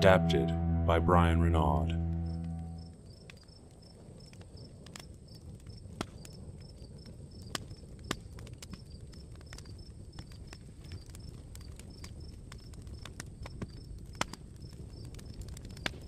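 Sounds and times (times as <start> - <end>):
campfire crackling and popping: 2.6 - 16.0.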